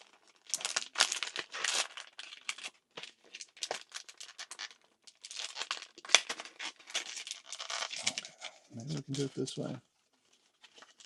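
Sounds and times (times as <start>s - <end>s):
packaging crinkling: 0.0s - 9.3s, 10.3s - 11.0s.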